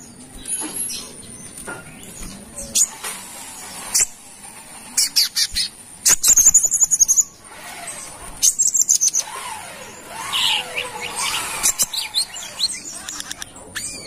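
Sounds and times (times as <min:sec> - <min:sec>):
sunbird chirping and trilling: 0:00.0 - 0:14.0.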